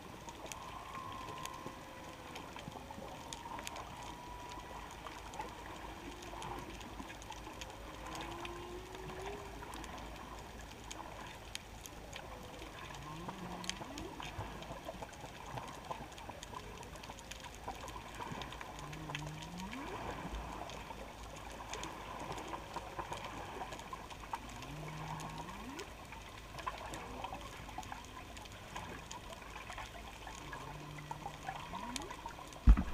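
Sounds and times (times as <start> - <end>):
humpback whale song: 0.0 - 11.1, 12.0 - 17.0, 17.8 - 20.8, 21.8 - 27.9, 29.9 - 32.9
faint crackling clicks: 0.0 - 32.9.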